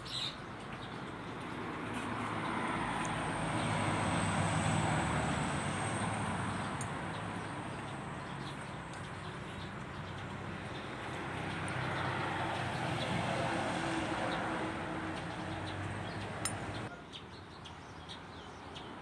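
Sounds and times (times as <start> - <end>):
motor vehicle passing by: 0.9 - 16.9.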